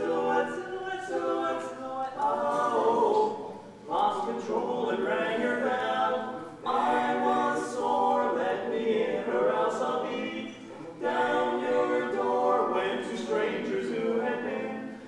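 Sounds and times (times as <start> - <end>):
vocal quartet singing a cappella: 0.0 - 15.0.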